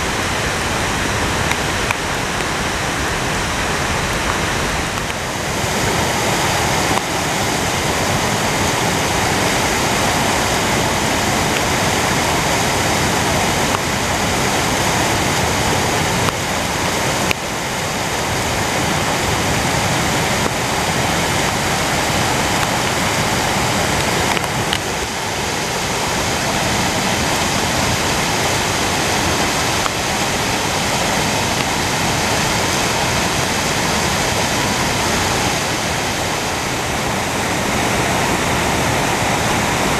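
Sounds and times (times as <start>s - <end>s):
water rushing through rapids: 0.0s - 39.9s.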